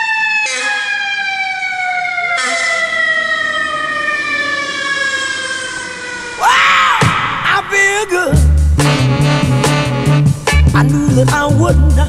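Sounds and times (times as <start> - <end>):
fire truck siren falling in pitch: 0.0 - 10.2.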